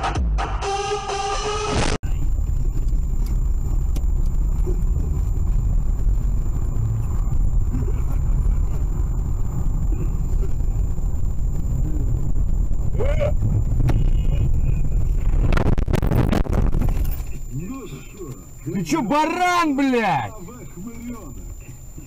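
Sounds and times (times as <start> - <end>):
car engine and tyre rumble: 2.0 - 22.0.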